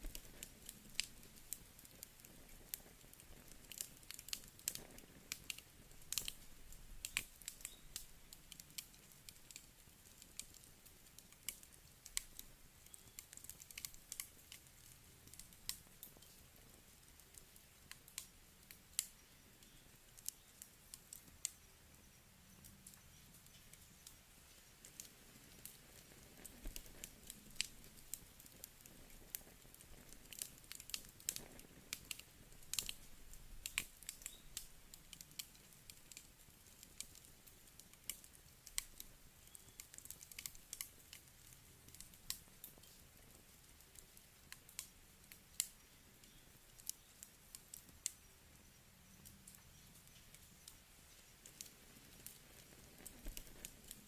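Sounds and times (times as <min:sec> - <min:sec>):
campfire crackling: 0:00.0 - 0:54.0
faint steady hiss: 0:00.0 - 0:54.0.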